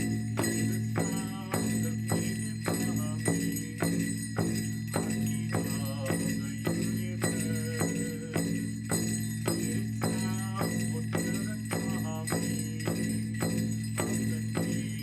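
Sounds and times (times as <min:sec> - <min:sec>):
drum beaten steadily: 0:00.0 - 0:15.0
small bells jingling: 0:00.0 - 0:15.0.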